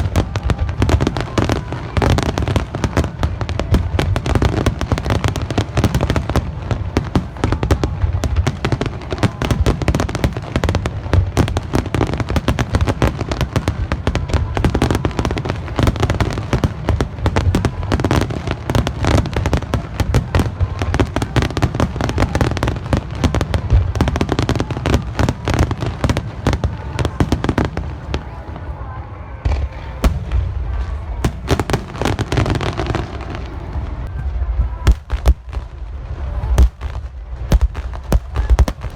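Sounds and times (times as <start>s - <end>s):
fireworks booming and crackling: 0.0s - 38.9s.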